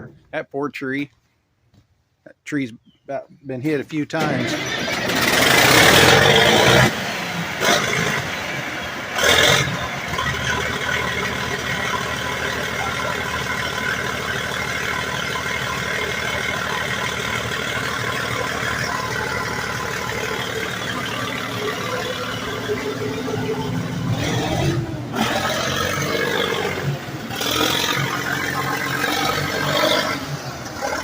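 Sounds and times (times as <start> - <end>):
bulldozer diesel engine running: 3.5 - 31.0.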